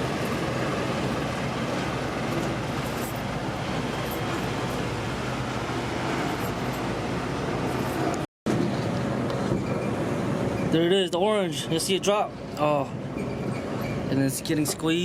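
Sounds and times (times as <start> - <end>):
traffic hum of passing vehicles: 0.0 - 15.0.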